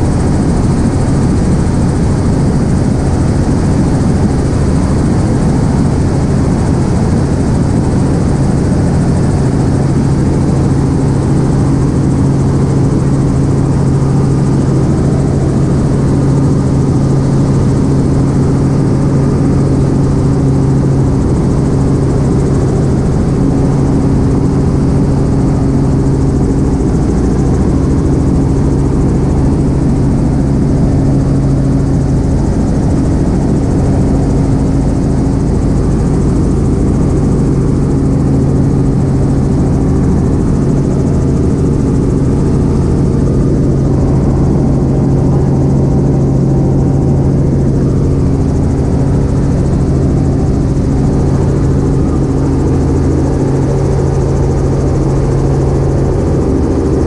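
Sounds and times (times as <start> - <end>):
helicopter cabin drone: 0.0 - 57.0.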